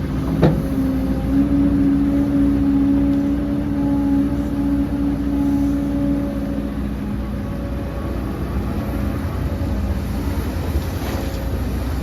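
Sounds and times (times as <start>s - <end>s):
heavy machinery rumbling with whine: 0.0s - 12.0s.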